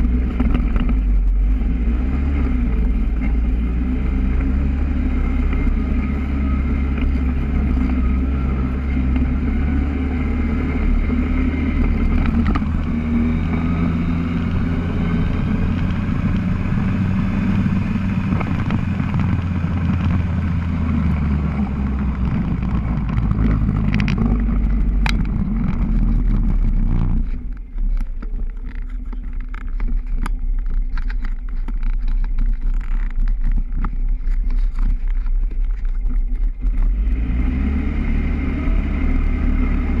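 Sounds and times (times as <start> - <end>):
quad bike engine running: 0.0 - 40.0.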